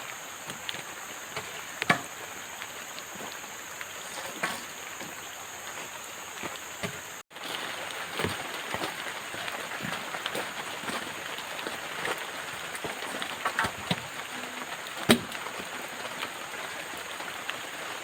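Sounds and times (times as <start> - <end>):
heavy rain and running water: 0.0 - 18.0.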